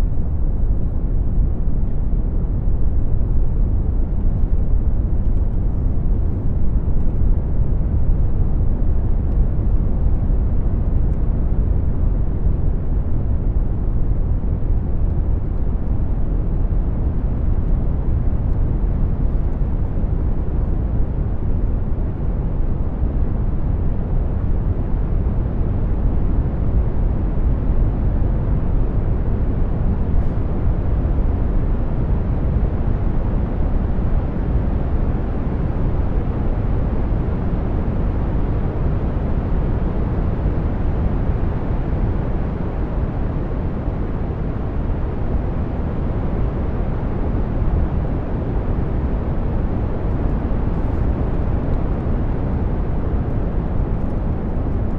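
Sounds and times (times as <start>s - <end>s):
brown noise rumbling hiss: 0.0s - 54.9s.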